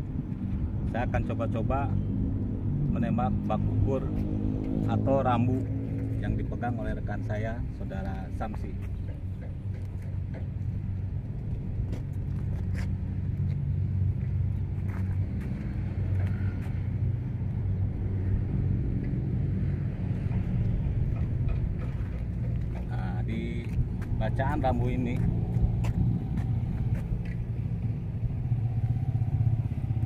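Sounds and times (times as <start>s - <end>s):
engine running low rumble: 0.0s - 30.0s.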